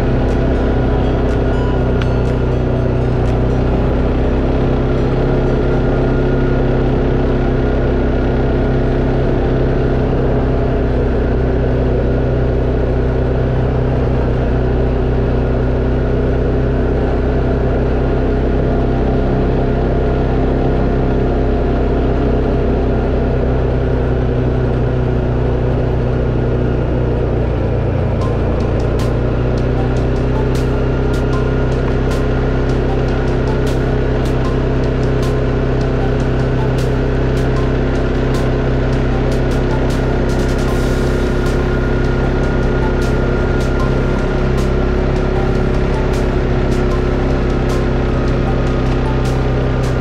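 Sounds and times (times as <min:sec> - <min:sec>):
atv engine running steadily: 0:00.0 - 0:50.0.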